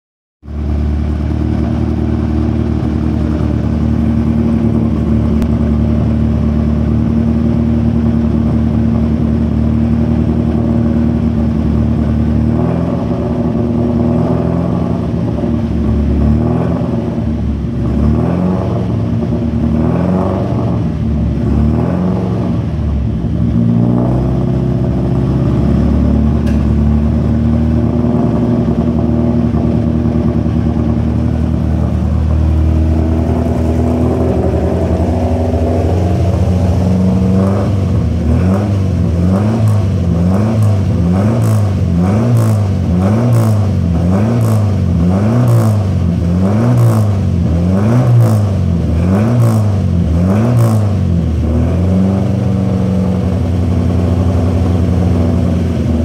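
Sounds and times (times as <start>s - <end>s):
car engine idling and revving: 0.4s - 56.0s.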